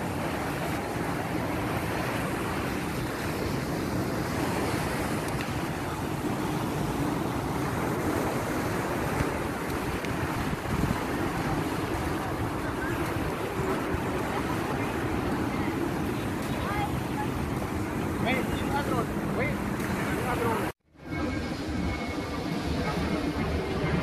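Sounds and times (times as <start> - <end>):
sea surf: 0.0 - 24.0
wind: 0.0 - 24.0
wind rumbling on microphone: 0.0 - 24.0.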